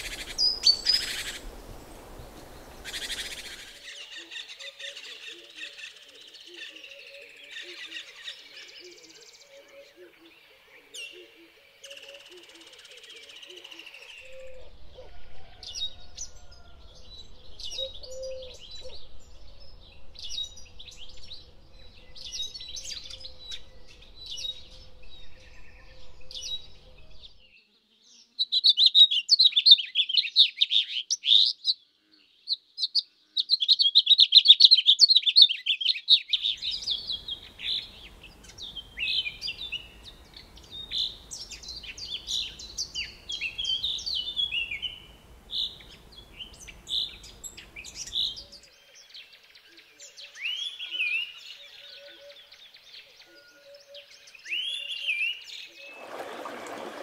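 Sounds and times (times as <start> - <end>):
small birds chirping: 0.0 - 14.5, 17.3 - 57.0.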